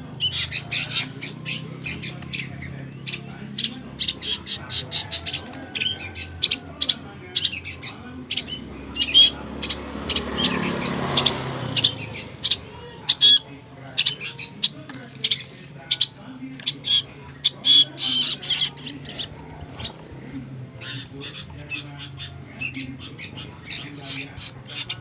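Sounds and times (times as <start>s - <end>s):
chicks chirping: 0.0s - 20.1s, 20.8s - 25.0s.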